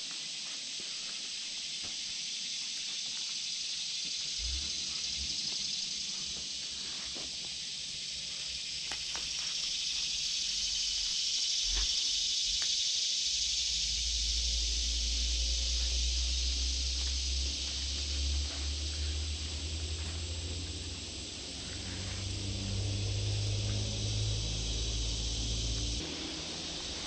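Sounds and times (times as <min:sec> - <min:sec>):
insect chorus droning: 0:00.0 - 0:27.0.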